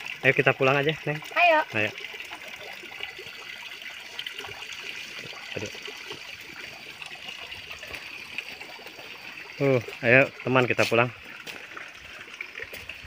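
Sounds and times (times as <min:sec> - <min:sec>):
water trickling into pond: 0:00.0 - 0:13.0.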